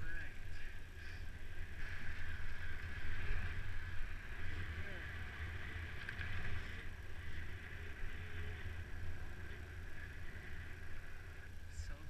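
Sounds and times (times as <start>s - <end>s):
bike tyre rumble: 0.0s - 12.0s.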